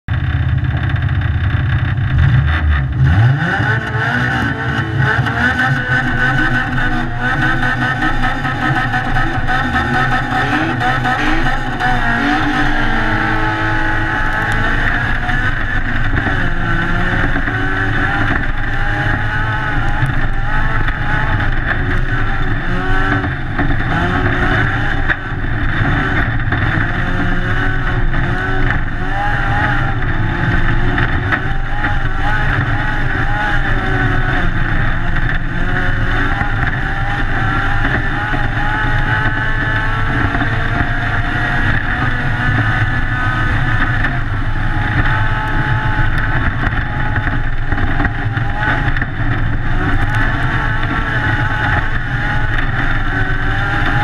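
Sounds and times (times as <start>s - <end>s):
car engine revving hard: 0.1s - 54.0s.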